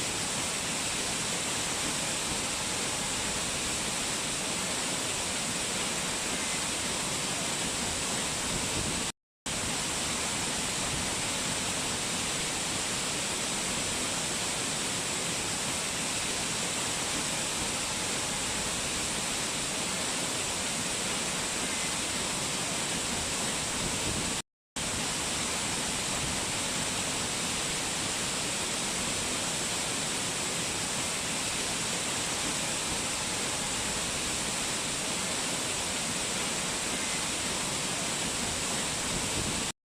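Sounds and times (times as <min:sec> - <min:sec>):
waterfall rushing: 0:00.0 - 0:39.7.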